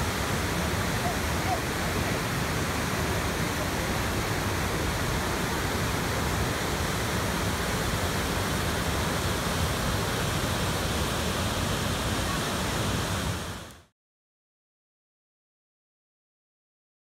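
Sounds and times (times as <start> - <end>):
waterfall and rapids rushing: 0.0 - 13.9.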